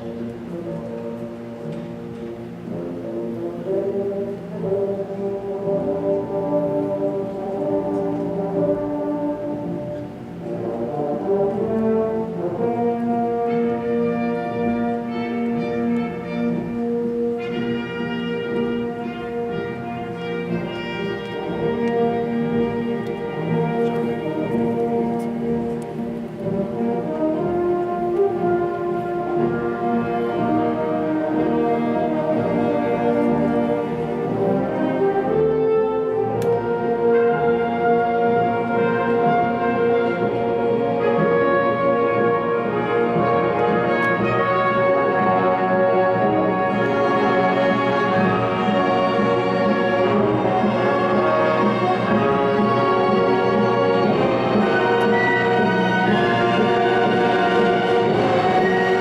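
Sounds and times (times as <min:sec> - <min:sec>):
brass chords: 0:00.0 - 0:59.0
french horns: 0:00.0 - 0:59.0
orchestra playing held chords: 0:00.0 - 0:59.0
strings: 0:00.0 - 0:59.0.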